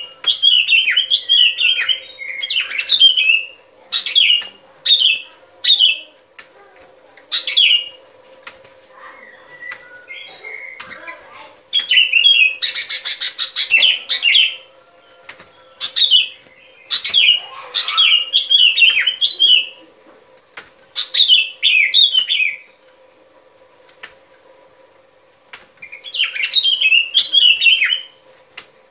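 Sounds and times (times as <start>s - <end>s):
bulbul singing: 0.0s - 20.1s, 20.8s - 23.0s, 25.8s - 28.9s
faint steady hum: 0.0s - 28.9s.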